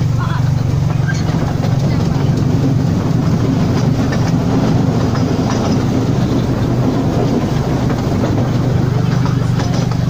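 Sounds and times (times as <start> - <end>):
train rumbling: 0.0 - 10.0
wheels clicking on rails: 0.0 - 10.0.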